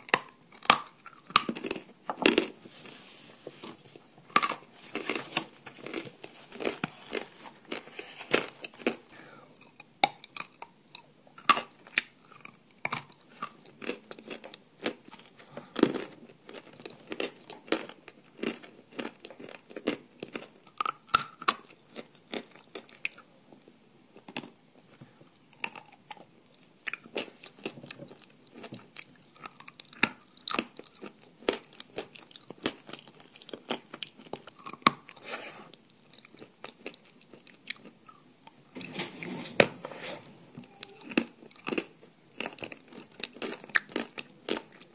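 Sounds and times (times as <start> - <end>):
chewing and crunching: 0.0 - 2.6, 3.5 - 38.8, 40.6 - 44.9.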